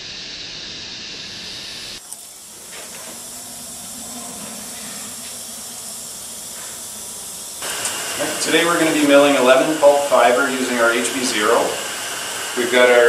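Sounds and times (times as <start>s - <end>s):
background hiss: 0.0s - 13.0s
faint low hum: 2.2s - 13.0s.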